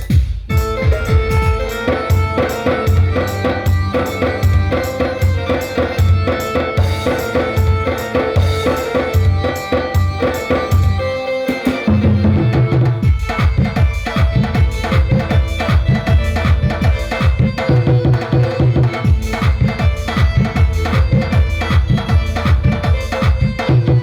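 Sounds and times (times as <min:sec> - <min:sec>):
electronic dance music with drums: 0:00.0 - 0:24.0.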